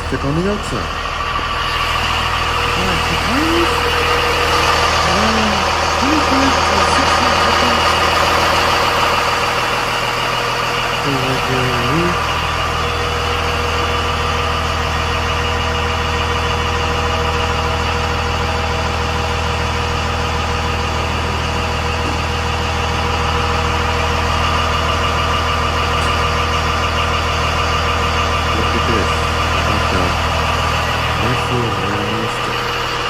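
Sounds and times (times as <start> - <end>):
diesel bus engine idling: 0.0 - 33.0.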